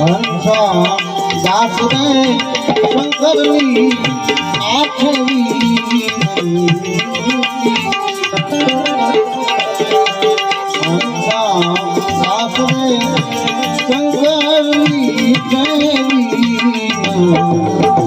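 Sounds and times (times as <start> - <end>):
held melodic line: 0.0 - 18.0
person singing: 0.0 - 18.0
tabla rhythm: 0.0 - 18.0.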